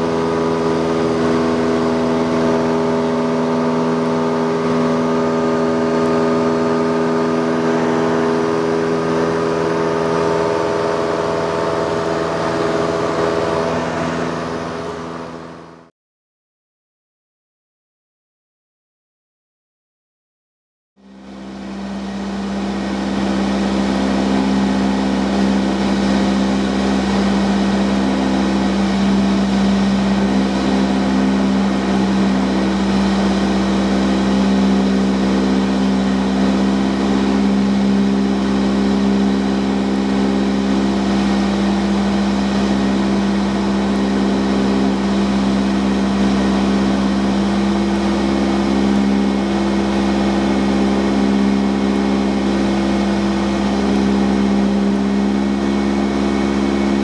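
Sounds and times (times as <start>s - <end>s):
propeller plane engine droning: 0.0s - 15.9s, 21.0s - 57.0s.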